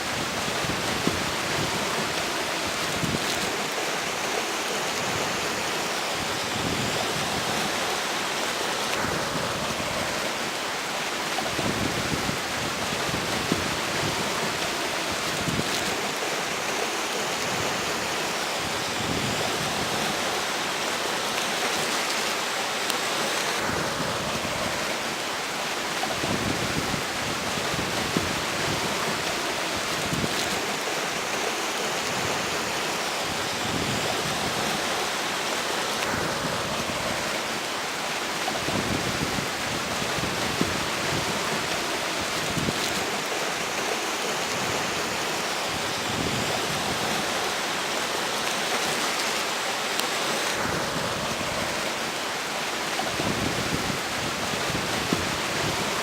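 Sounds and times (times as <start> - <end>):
strong wind gusting: 0.0 - 20.6, 23.6 - 48.3, 50.5 - 56.0
river water rushing: 0.0 - 56.0.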